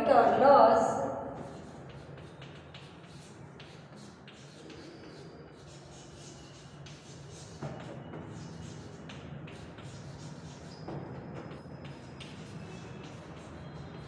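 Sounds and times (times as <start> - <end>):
chalk scratching on blackboard: 1.3 - 14.0.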